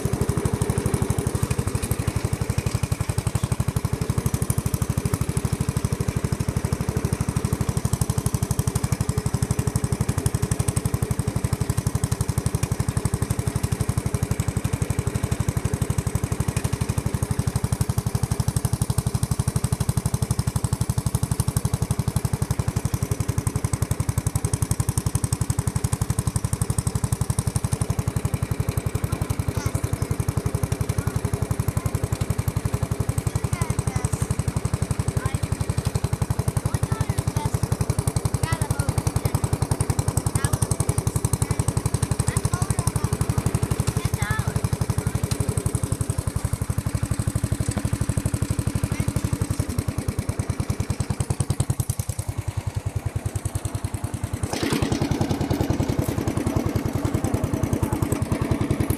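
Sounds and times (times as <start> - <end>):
riding tractor engine running: 0.0 - 58.9.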